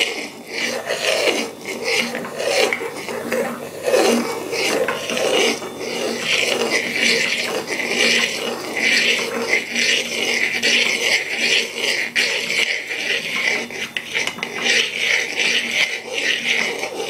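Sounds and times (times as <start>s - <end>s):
utensil scraping metal pot: 0.0s - 17.0s.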